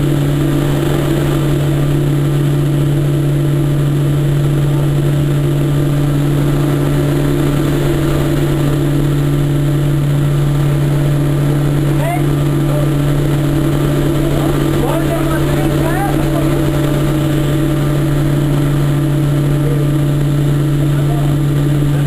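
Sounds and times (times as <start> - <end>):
air noise: 0.0 - 22.0
turboprop engines droning: 0.0 - 22.0.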